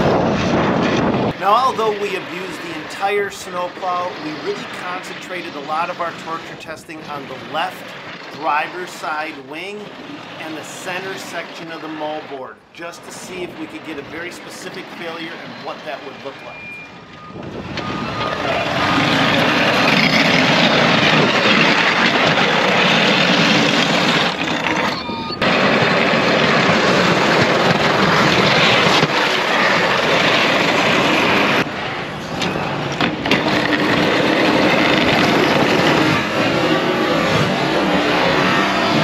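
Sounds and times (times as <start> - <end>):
pickup truck engine: 0.0 - 39.0
plow blade scraping pavement: 0.0 - 39.0.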